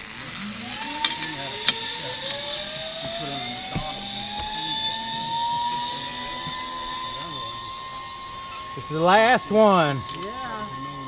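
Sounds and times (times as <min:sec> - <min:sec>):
zip line pulleys whining on cable: 0:00.0 - 0:11.0.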